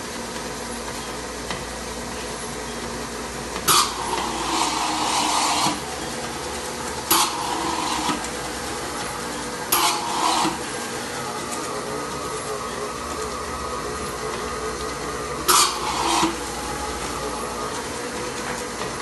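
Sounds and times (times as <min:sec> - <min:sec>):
stand mixer running: 0:00.0 - 0:19.0
liquid nitrogen hissing: 0:03.3 - 0:19.0.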